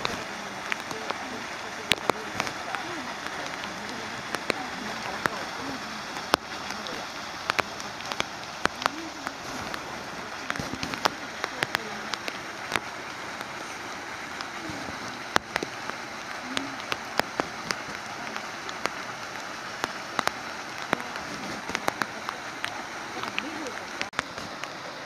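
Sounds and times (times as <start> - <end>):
raindrops clicking close by: 0.0 - 25.0
steady rain falling: 0.0 - 25.0.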